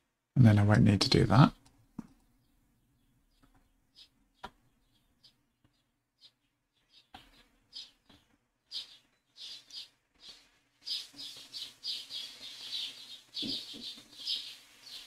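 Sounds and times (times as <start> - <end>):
bird chirping: 1.0 - 15.0.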